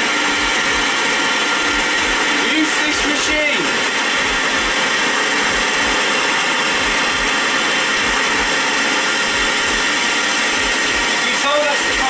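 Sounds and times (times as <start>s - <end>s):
radio static: 1.6s - 12.0s.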